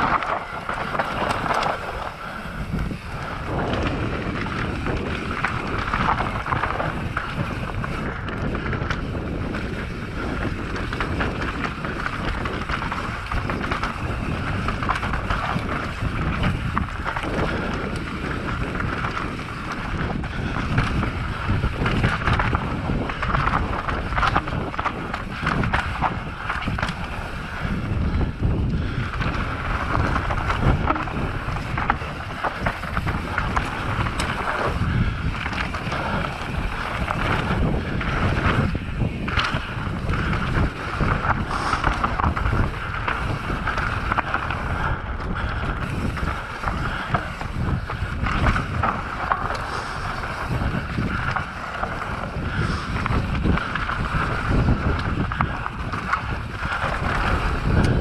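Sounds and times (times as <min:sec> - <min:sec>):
bike rattling over bumps: 0:00.0 - 0:58.0
tyres running over dirt: 0:00.0 - 0:58.0
wind rushing over microphone: 0:00.0 - 0:58.0.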